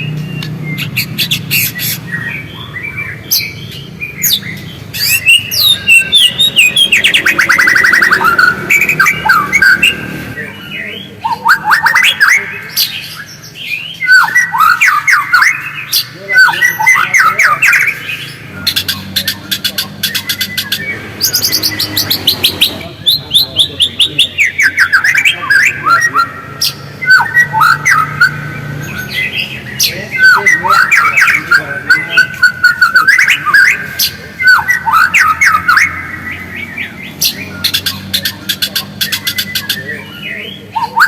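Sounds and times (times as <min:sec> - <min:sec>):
songbird singing and chattering: 0:00.0 - 0:41.0.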